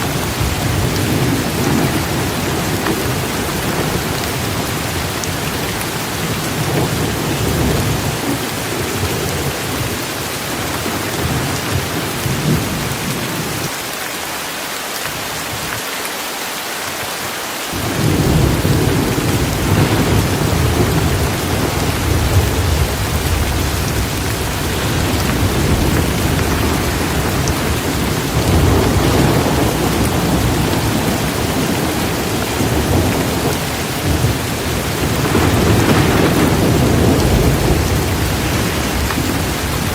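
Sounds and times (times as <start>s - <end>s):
thunder rumbling: 0.0s - 13.7s, 17.8s - 39.9s
heavy rain: 0.0s - 39.9s.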